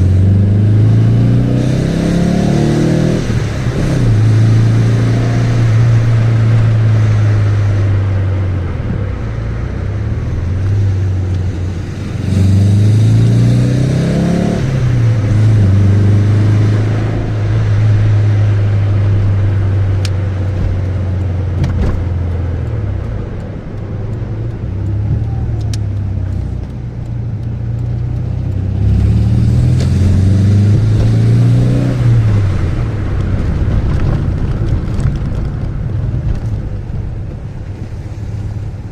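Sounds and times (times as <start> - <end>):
car engine droning: 0.0 - 38.9
engine accelerating through gears: 0.0 - 38.9.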